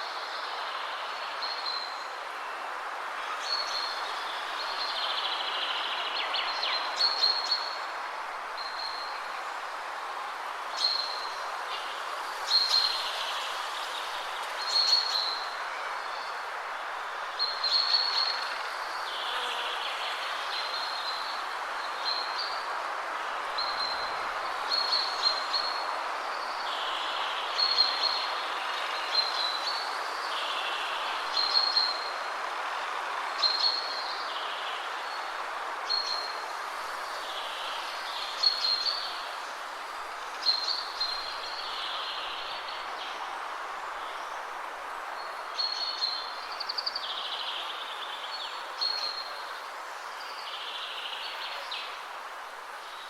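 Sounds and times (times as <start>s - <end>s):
wind blowing through trees: 0.0s - 53.0s.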